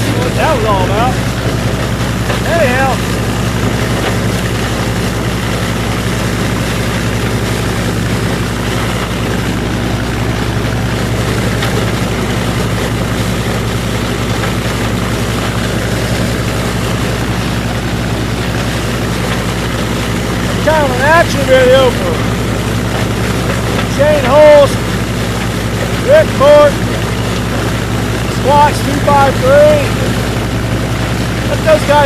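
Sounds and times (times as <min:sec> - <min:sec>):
chopper shredding corn stalks: 0:00.0 - 0:32.0
tractor engine hum: 0:00.0 - 0:32.0.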